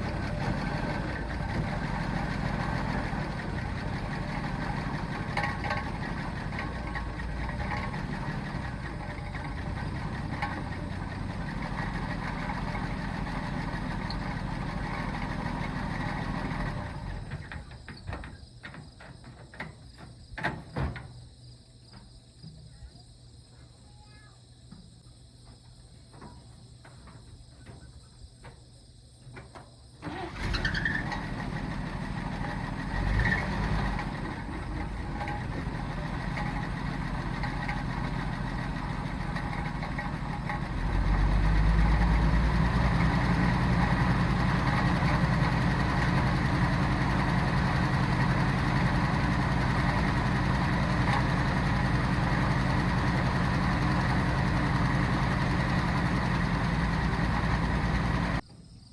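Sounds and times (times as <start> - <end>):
truck engine starting and running: 0.0 - 19.7, 30.0 - 58.4.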